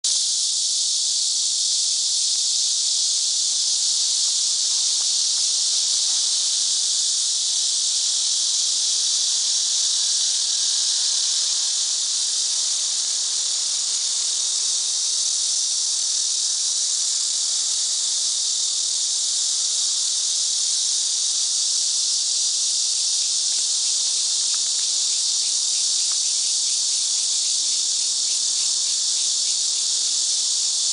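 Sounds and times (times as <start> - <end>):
cicadas chorus: 0.0 - 30.9.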